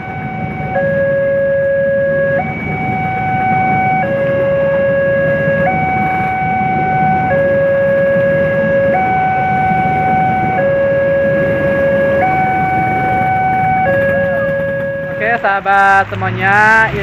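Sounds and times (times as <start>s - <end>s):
two-tone level crossing alarm: 0.0s - 15.9s
heavy rain: 0.0s - 17.0s
train rumbling past: 0.0s - 17.0s.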